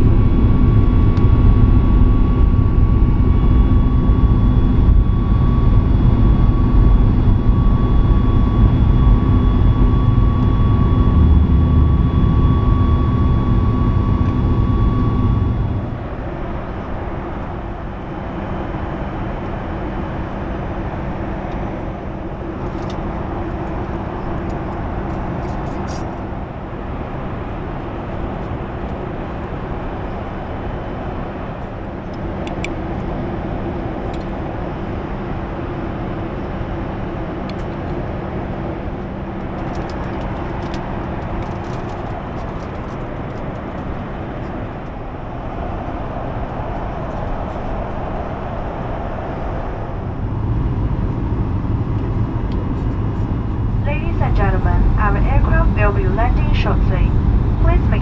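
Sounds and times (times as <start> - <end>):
engine and airflow rush: 0.0 - 58.0
low cabin hum: 0.0 - 58.0.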